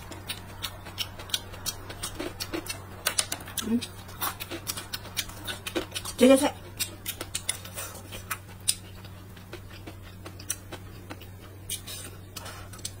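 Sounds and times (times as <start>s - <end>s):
chewing crunches: 0.0s - 13.0s
steady low hum: 0.0s - 13.0s.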